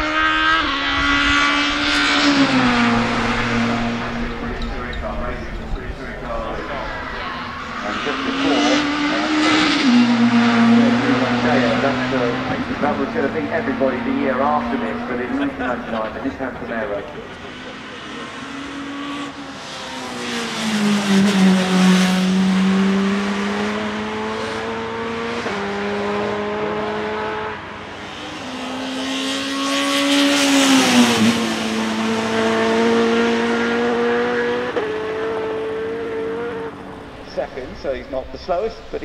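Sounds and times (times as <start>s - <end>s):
racing car engine at high revs: 0.0s - 39.0s.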